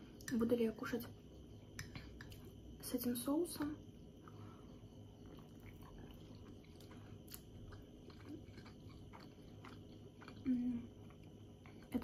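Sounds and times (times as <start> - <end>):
quiet chewing and mouth sounds: 0.0 - 2.7, 3.9 - 12.0.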